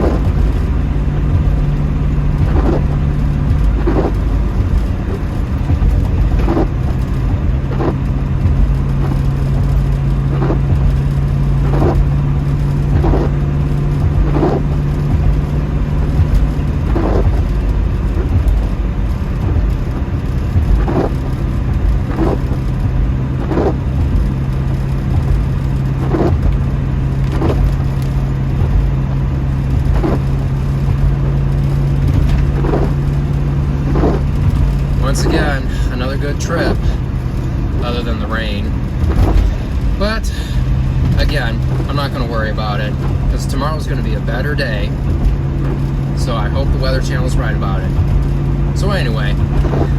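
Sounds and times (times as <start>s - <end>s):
engine and road drone: 0.0s - 49.9s
windshield wipers sweeping: 0.0s - 49.9s.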